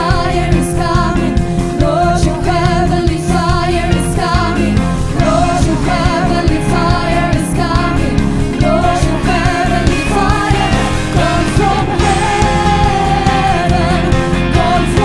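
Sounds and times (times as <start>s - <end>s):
person singing: 0.0s - 15.0s
rock worship band playing: 0.0s - 15.0s.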